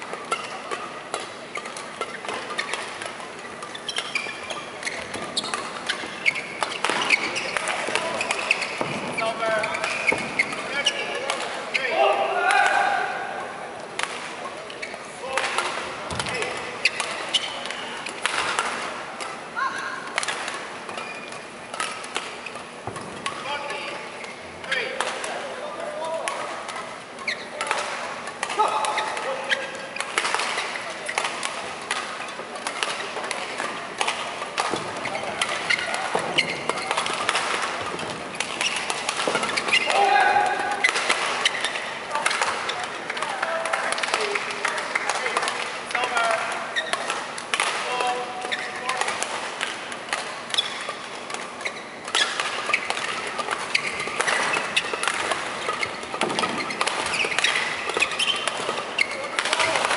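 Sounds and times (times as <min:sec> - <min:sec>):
shoes squeaking on court: 0:00.0 - 0:12.0, 0:13.8 - 0:59.9
rackets striking shuttlecock: 0:00.0 - 0:13.1, 0:13.7 - 0:59.9.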